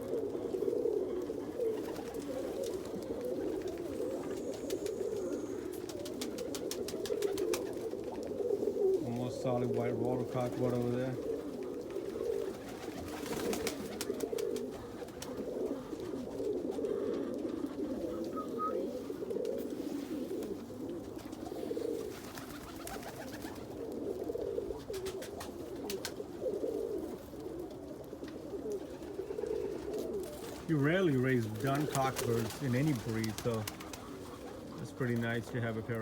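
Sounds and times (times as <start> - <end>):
pigeons cooing: 0.0 - 36.0.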